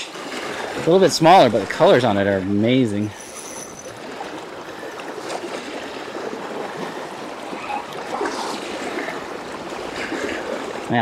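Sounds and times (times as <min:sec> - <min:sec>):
small waves lapping on stony shore: 0:00.0 - 0:11.0.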